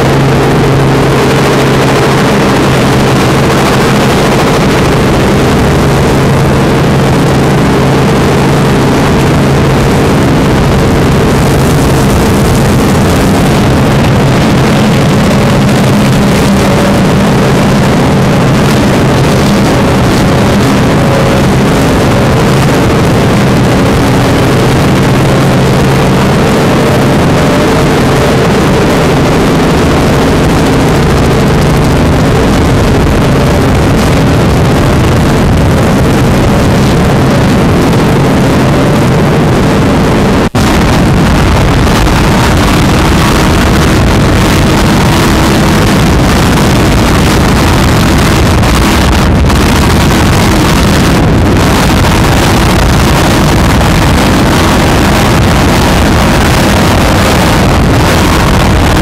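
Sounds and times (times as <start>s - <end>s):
loud engine drone: 0.0s - 59.0s
wind on microphone: 0.0s - 59.0s.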